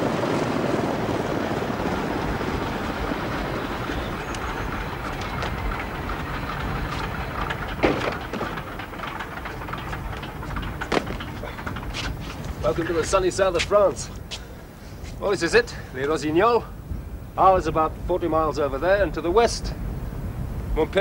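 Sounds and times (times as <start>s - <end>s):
propeller plane engines running: 0.0s - 21.0s.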